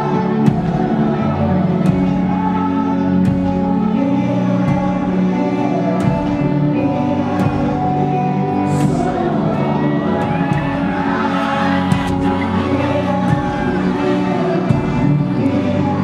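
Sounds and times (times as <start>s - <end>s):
pop-rock band playing live: 0.0s - 16.0s.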